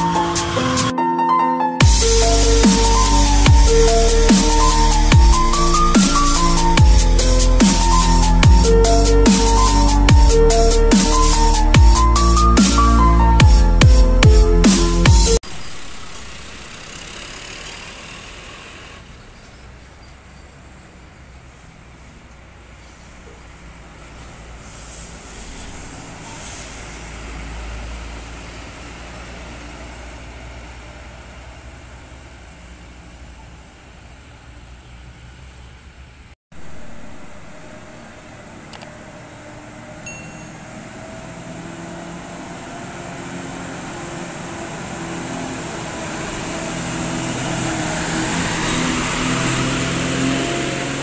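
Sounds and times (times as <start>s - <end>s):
diesel coach buses driving past: 0.0s - 1.0s, 1.8s - 51.0s.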